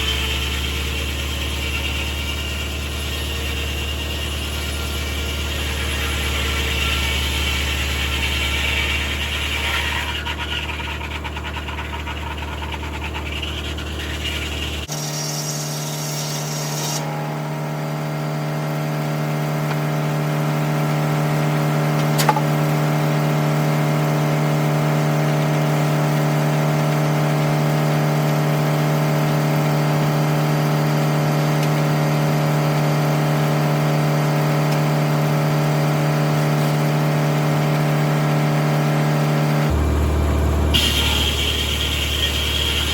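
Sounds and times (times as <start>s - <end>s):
tractor engine driving a saw: 0.0s - 42.9s.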